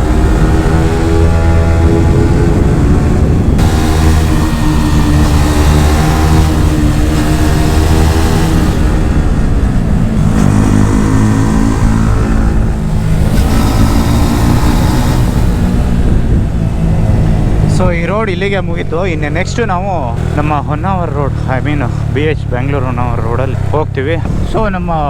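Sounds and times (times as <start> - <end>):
motorcycle engine running hard: 0.0 - 25.0.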